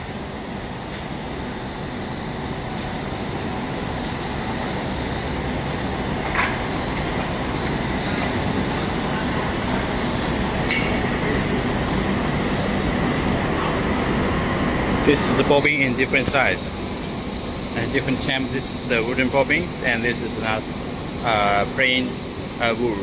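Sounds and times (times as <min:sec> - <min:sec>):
machinery drone: 0:00.0 - 0:23.0
machine squeals: 0:00.4 - 0:23.0.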